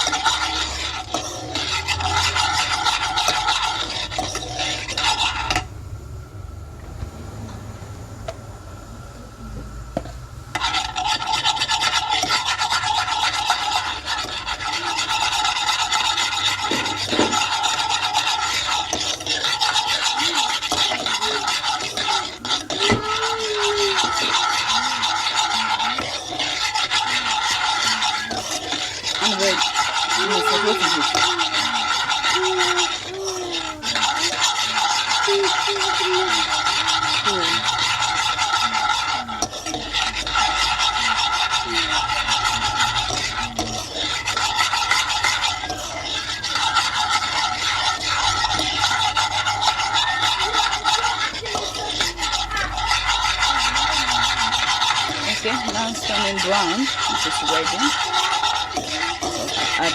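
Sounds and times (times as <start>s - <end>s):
utensil rasping against a pan: 0.0s - 5.7s, 10.0s - 59.9s.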